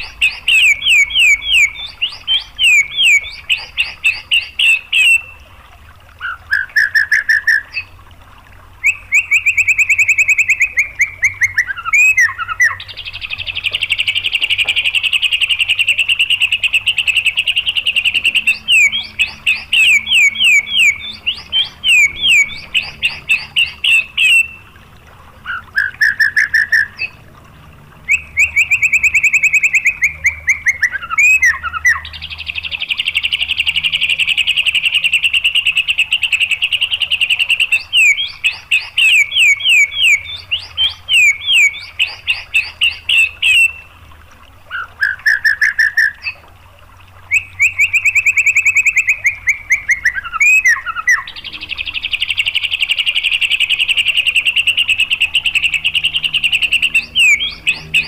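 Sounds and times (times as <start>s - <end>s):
songbird whistling and trilling: 0.0s - 5.4s, 6.2s - 7.9s, 8.8s - 24.7s, 25.5s - 27.2s, 28.1s - 43.9s, 47.3s - 58.0s.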